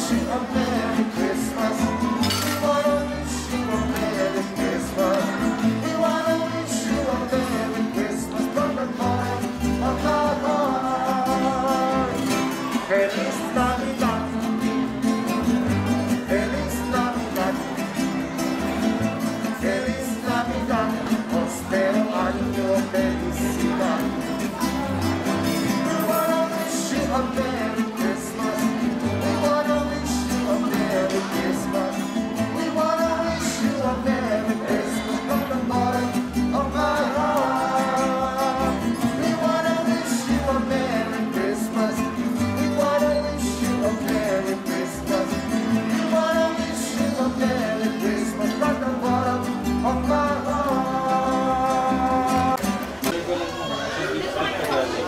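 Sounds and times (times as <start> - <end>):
person singing: 0.0 - 15.2, 15.8 - 18.5, 19.2 - 52.8
plucked double bass: 0.0 - 53.2
strummed acoustic guitars: 0.0 - 53.3.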